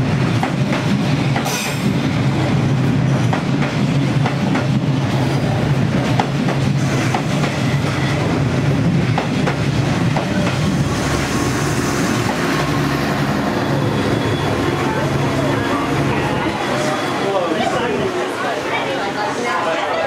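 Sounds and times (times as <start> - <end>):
train carriages rumbling past: 0.0 - 20.0.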